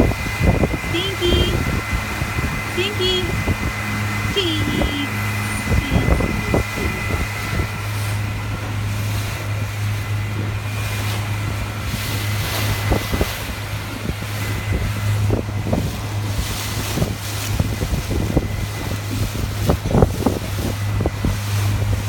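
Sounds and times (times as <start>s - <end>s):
boat engine droning: 0.0s - 22.0s
wind buffeting microphone: 0.0s - 22.0s.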